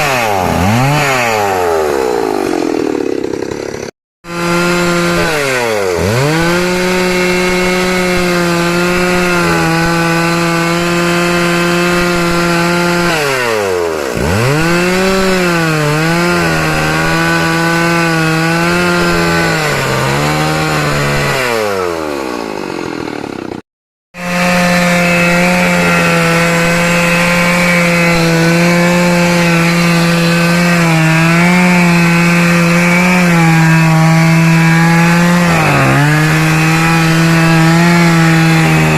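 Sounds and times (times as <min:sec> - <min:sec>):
chainsaw cutting wood: 0:00.0 - 0:23.6, 0:24.2 - 0:38.9.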